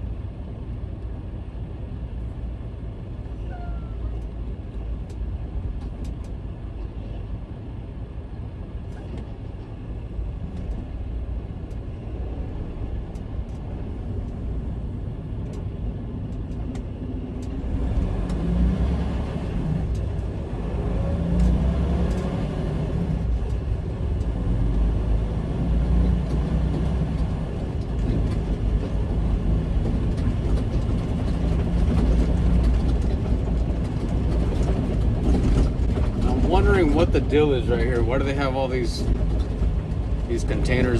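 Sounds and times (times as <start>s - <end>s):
road noise inside cab: 0.0s - 40.9s
truck diesel engine: 0.0s - 40.9s.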